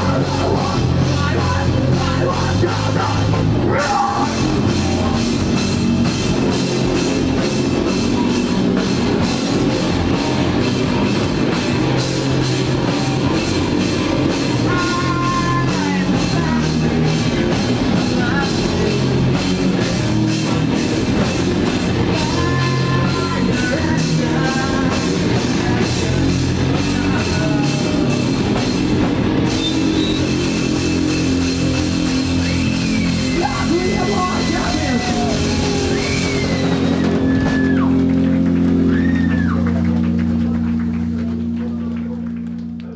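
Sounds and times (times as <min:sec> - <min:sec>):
drum kit: 0:00.0 - 0:42.8
distorted electric guitars: 0:00.0 - 0:42.9.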